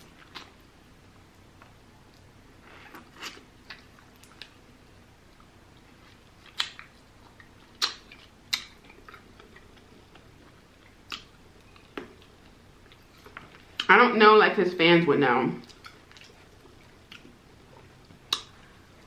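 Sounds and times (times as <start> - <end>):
chewing with mouth clicks: 0.0 - 0.7, 1.6 - 4.6, 5.3 - 13.9, 15.6 - 19.0.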